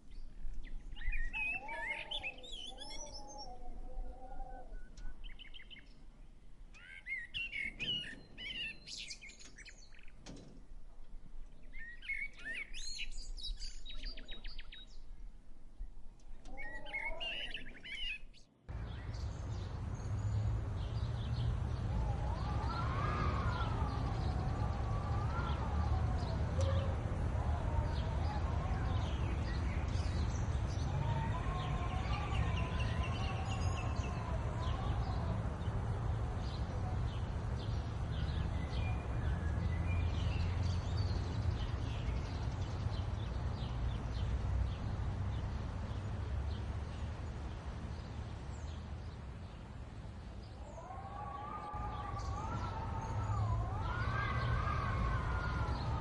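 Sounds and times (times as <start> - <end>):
small birds chirping: 0.0 - 10.5, 11.4 - 56.0.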